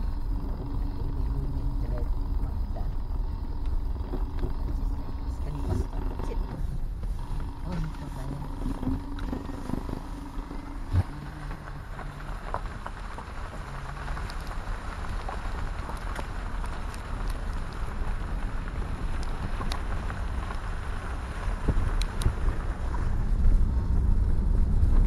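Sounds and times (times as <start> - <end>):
small ticks: 0.0 - 20.7, 21.6 - 23.0
car tyre rumble on unpaved road: 0.0 - 25.0.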